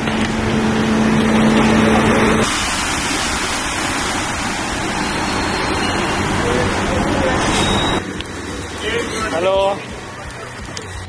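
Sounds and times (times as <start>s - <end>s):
garbage truck humming: 0.0s - 11.0s.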